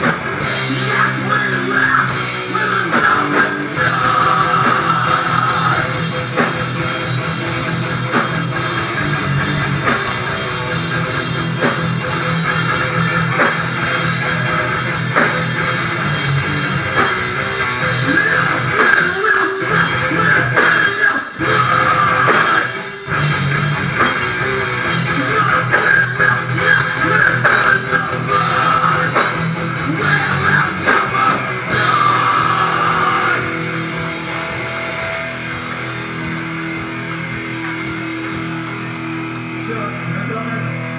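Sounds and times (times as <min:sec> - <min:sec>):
heavy rock band playing live: 0:00.0 - 0:40.9.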